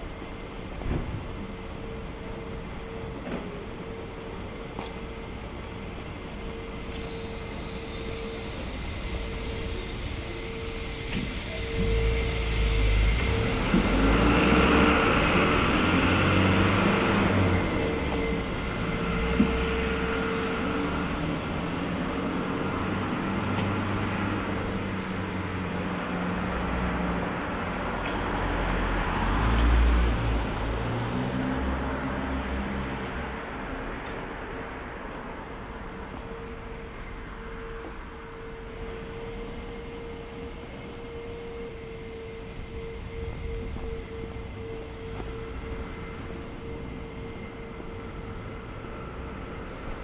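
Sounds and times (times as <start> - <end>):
steady traffic hum: 0.0 - 50.0
passing vehicle engine rumble: 1.8 - 50.0.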